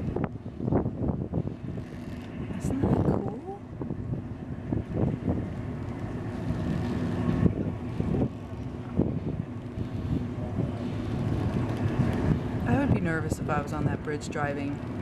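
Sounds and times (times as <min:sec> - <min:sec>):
low engine rumble: 0:00.0 - 0:15.0
wind gusting on microphone: 0:00.0 - 0:15.0.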